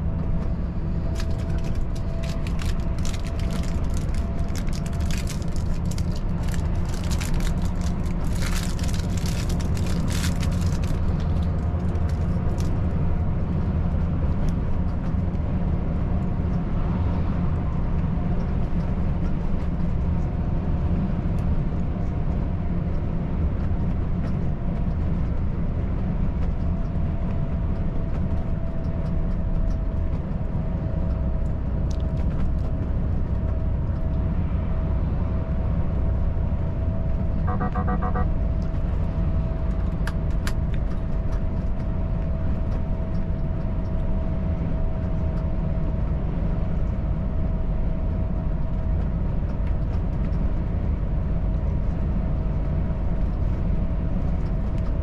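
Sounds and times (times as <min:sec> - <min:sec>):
road noise: 0:00.0 - 0:55.0
truck diesel engine cruising: 0:00.0 - 0:55.0.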